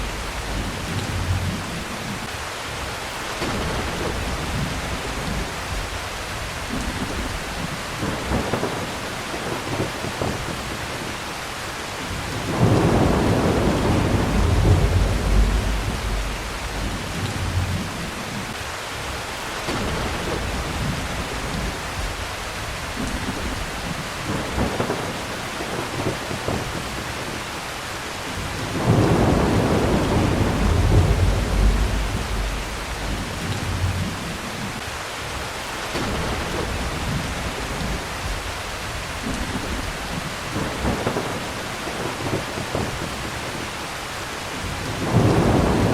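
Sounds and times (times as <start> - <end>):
rolling thunder rumble: 0.0 - 11.2, 12.1 - 18.6, 19.7 - 27.5, 28.2 - 43.8, 44.6 - 45.9
steady rain: 0.0 - 45.9.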